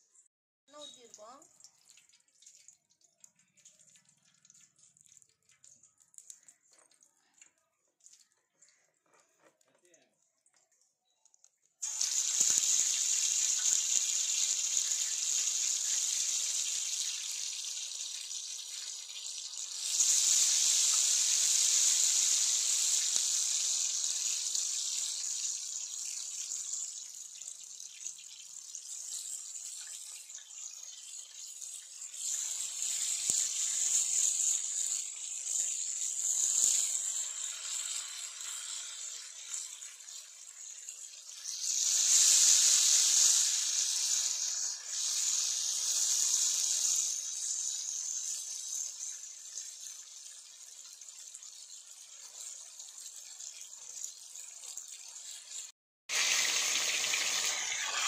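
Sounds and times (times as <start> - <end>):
fish sizzling in hot oil: 0.7 - 7.2, 11.8 - 58.0.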